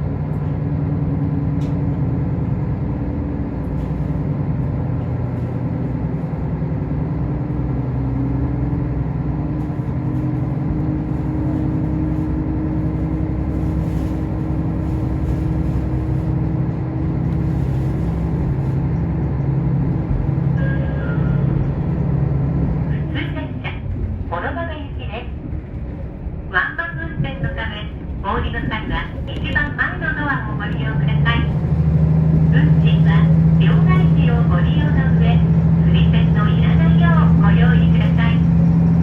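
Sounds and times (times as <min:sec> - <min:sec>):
diesel railcar engine hum: 0:00.0 - 0:39.0.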